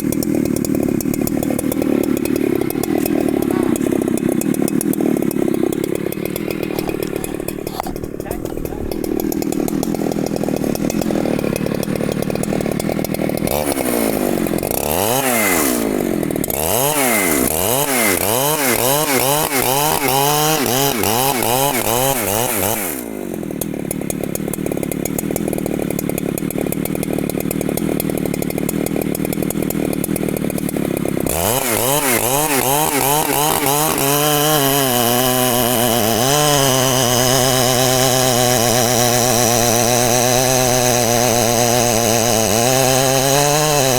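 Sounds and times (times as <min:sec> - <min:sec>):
chainsaw running hard: 0:00.0 - 0:43.9.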